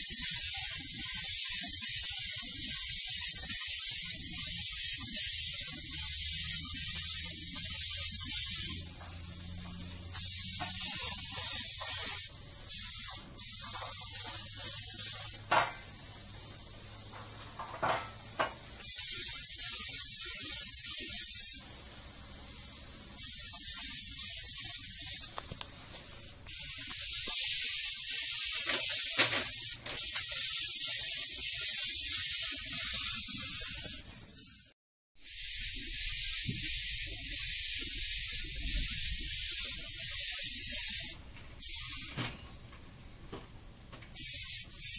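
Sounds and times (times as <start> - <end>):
paint spray gun hissing bursts: 0.0 - 17.1, 18.6 - 42.2, 44.2 - 44.9.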